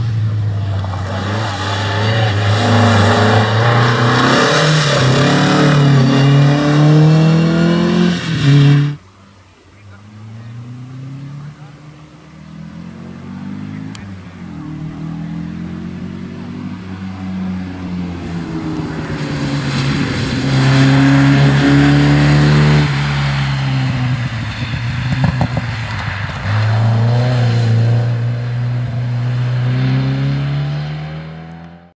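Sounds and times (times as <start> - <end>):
engine crackling off throttle: 0.0 - 31.7
rally car engine revving: 0.0 - 31.9.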